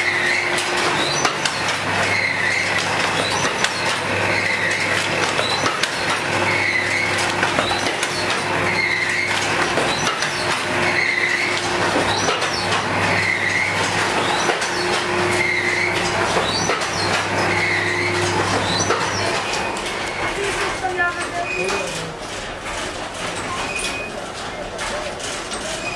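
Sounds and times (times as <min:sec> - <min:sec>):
machine motor hum: 0:00.0 - 0:25.9
machine pressing cycle: 0:00.0 - 0:25.9.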